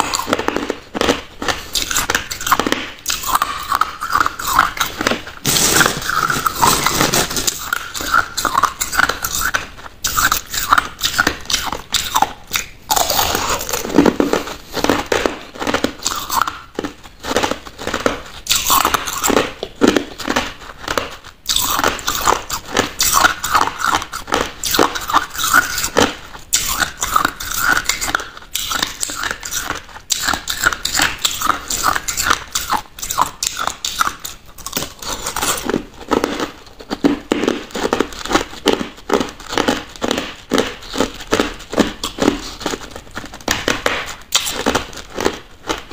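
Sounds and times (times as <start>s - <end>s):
crushed ice being chewed: 0.0s - 45.9s.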